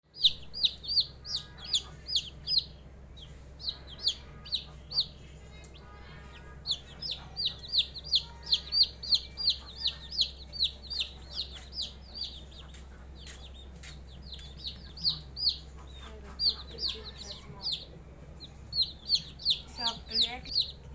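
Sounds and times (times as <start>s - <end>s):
steady low hum: 0.0s - 20.9s
chicks peeping: 0.1s - 20.9s.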